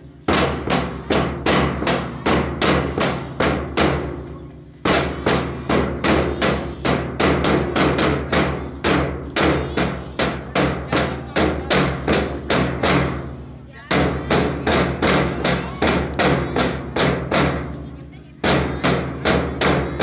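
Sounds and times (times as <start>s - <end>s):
fast drum beat: 0.2s - 4.2s, 4.8s - 20.0s.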